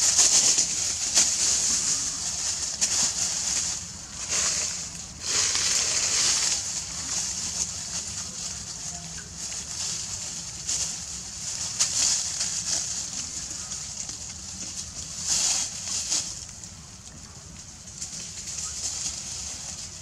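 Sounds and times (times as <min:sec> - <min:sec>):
dry leaves rustling and crackling: 0:00.0 - 0:20.0
steady high hiss: 0:00.0 - 0:20.0.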